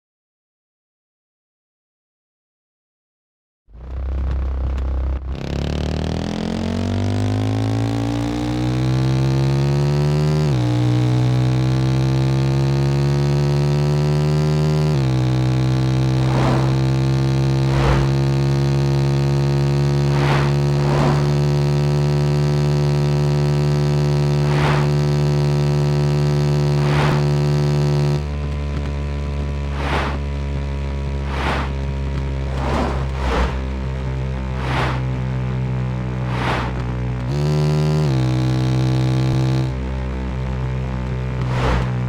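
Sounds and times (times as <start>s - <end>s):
motorcycle engine running hard: 3.8s - 42.0s.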